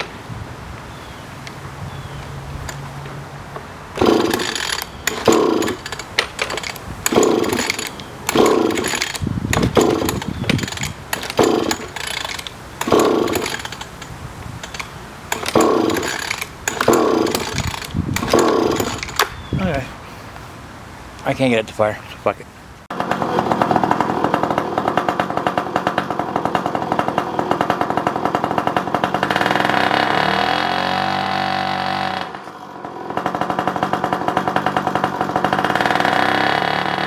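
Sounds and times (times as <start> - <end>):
outboard motor cranking: 1.9 - 19.8, 22.9 - 37.0
starter rope pulls: 2.2 - 19.9, 22.9 - 37.0.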